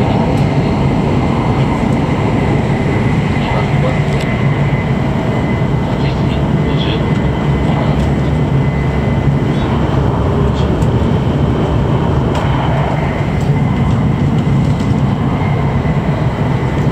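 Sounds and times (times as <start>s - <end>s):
train rumble and rushing: 0.0s - 16.9s.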